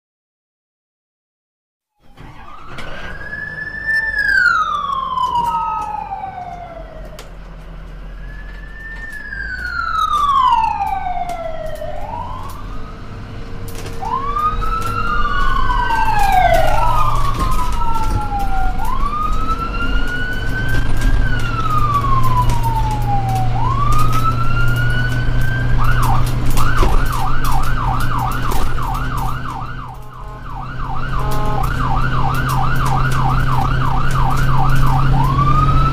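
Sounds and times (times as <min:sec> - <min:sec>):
ambulance siren wailing and yelping: 0:02.0 - 0:35.9.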